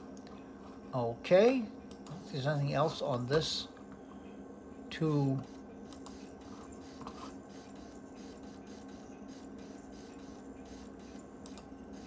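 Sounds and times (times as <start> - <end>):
computer humming: 0.0 - 12.0.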